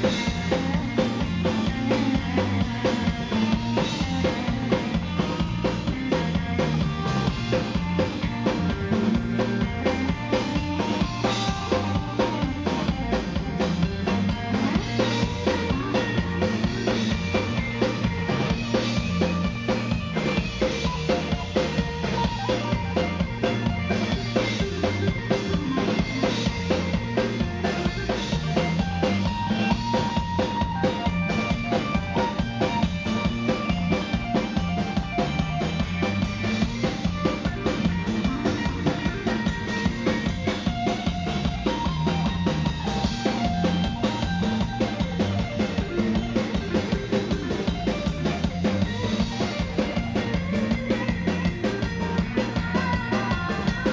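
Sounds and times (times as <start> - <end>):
bass guitar: 0.0 - 53.9
distorted electric guitar: 0.0 - 53.9
drum kit beat: 0.0 - 53.9.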